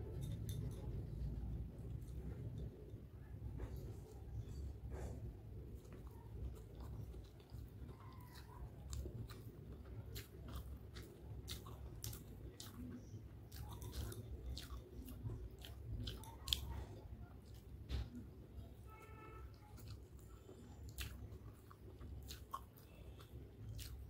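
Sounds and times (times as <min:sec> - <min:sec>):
wet chewing: 0:00.0 - 0:24.0.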